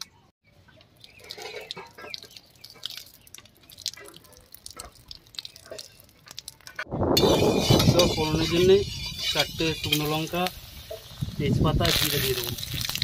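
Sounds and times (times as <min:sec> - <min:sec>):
water pouring and spattering: 0:00.8 - 0:13.0.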